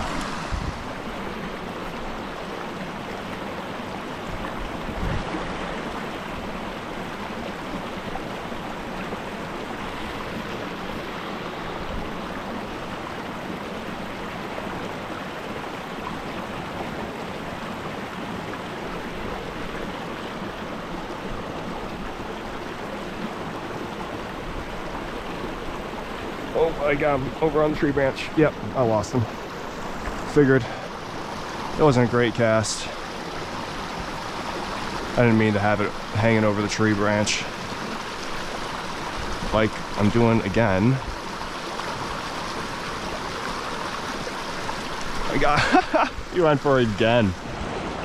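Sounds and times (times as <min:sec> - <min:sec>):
stream running over rocks: 0:00.0 - 0:48.0.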